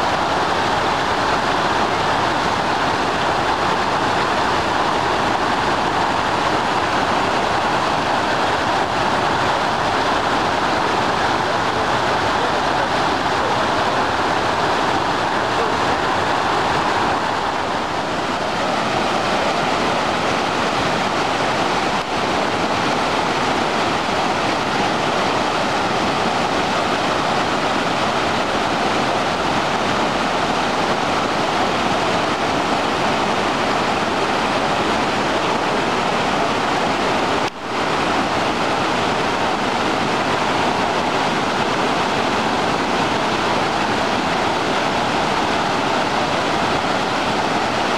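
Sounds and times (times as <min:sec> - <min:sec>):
whitewater rushing through rapids: 0:00.0 - 0:47.9.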